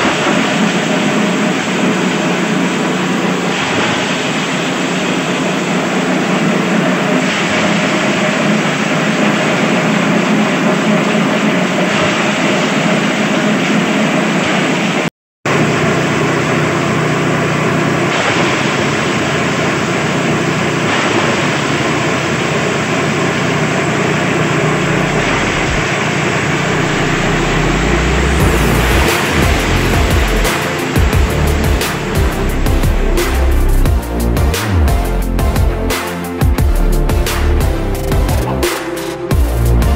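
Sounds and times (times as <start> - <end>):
fodder chopper running: 0.0 - 39.9.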